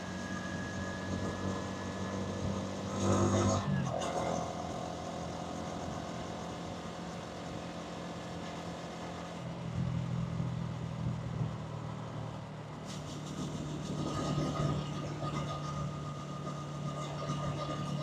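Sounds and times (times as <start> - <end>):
motorcycle engine running: 0.0 - 18.0
traffic and road noise: 0.0 - 18.0.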